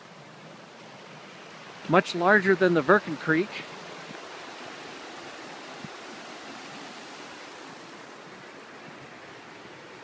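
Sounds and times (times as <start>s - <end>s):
creek rushing over rocks: 0.0s - 10.0s.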